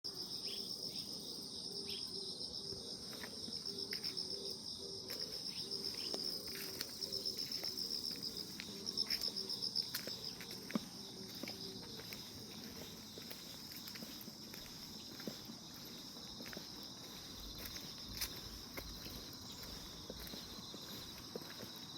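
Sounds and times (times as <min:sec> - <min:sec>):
insects chirping trill: 0:00.1 - 0:21.9.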